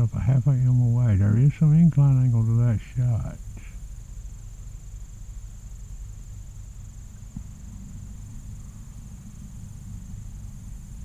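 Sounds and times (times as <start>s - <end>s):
high-pitched insect drone: 0.0s - 11.0s
low rumble: 0.0s - 11.0s.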